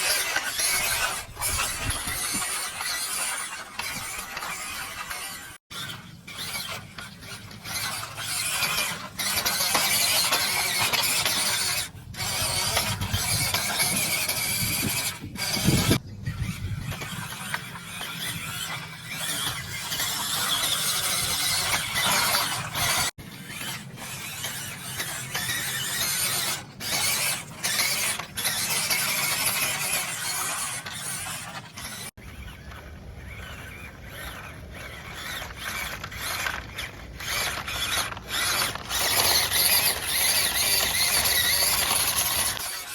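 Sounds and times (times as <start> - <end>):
toy car electric motor whining: 0.0 - 42.9.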